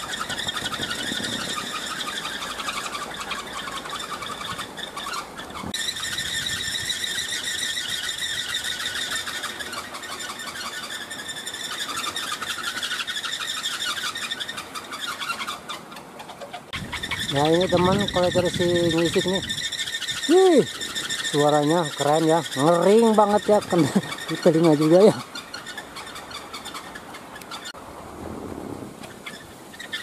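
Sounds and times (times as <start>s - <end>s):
propeller hub squeaking: 0.0s - 27.8s, 29.0s - 30.0s.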